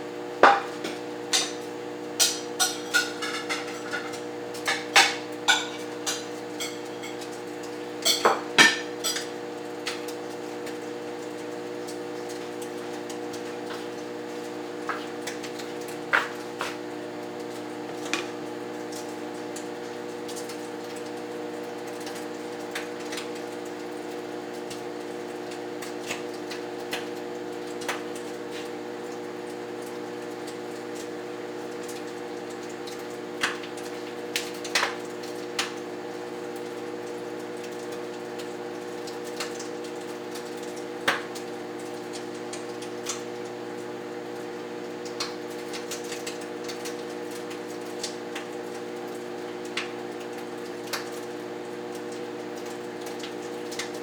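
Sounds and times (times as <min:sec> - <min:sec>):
microwave oven humming: 0:00.0 - 0:54.0
bacon crackling and popping: 0:00.3 - 0:54.0.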